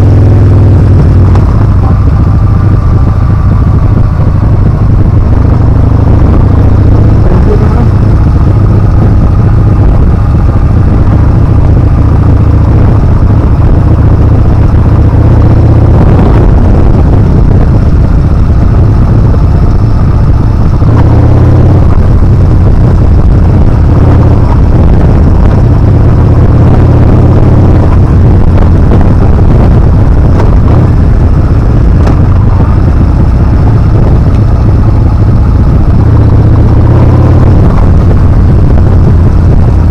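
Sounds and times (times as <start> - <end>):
motorcycle engine at speed: 0.0 - 39.9
wind rumble on microphone: 0.0 - 39.9.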